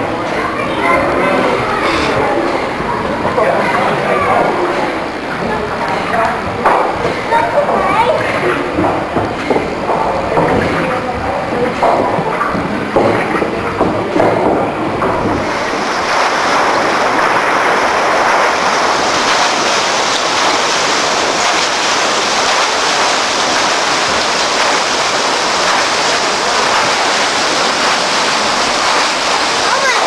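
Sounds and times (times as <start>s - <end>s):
paddle wheel churning water: 0.0s - 30.0s.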